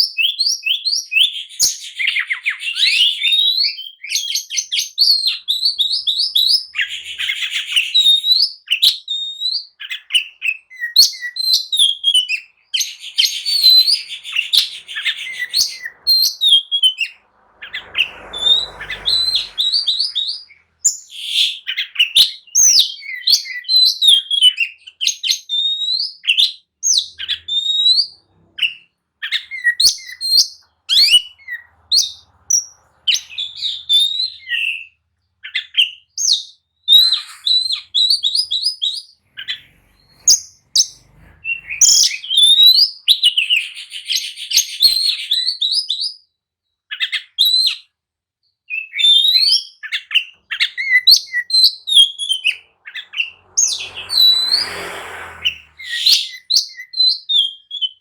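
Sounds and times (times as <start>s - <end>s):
bird whistling song: 0.0s - 47.9s, 48.6s - 58.0s.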